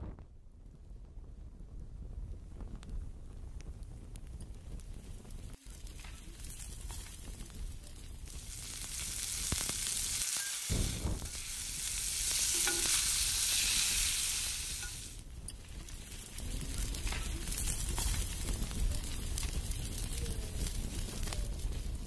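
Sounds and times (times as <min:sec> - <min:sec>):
chicken sizzling over charcoal: 0:02.0 - 0:22.0.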